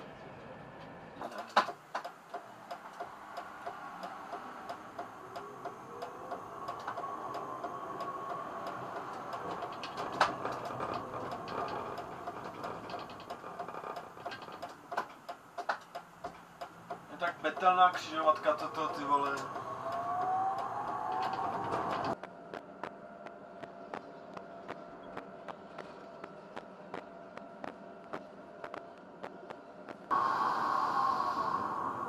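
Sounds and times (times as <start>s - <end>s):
steady ticking: 1.7s - 30.2s
tram motor whine: 1.8s - 28.0s, 29.5s - 32.0s.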